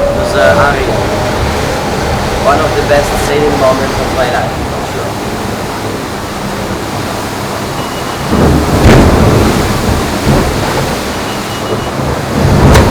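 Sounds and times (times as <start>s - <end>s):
water rushing past yacht: 0.0s - 12.9s
wind buffeting microphone: 0.0s - 12.9s.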